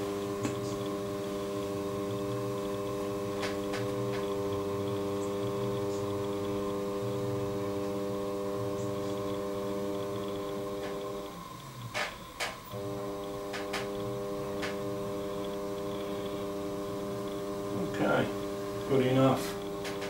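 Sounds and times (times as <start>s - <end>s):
potter's wheel motor hum: 0.0s - 20.0s.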